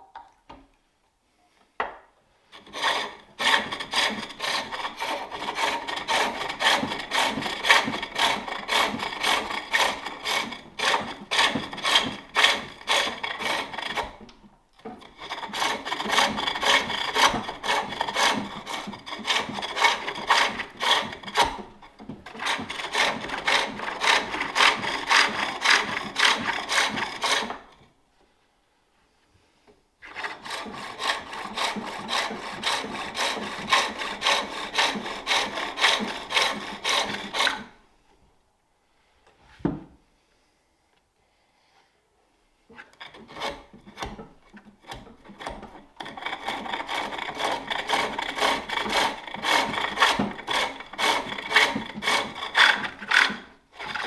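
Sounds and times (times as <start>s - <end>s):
lathe tool scraping wood: 2.5s - 27.9s, 30.0s - 37.8s, 42.8s - 54.0s.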